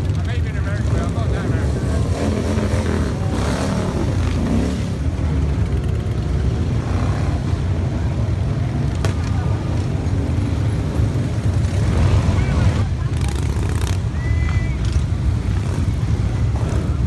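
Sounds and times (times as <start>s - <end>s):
motorcycle engines droning: 0.0s - 17.0s.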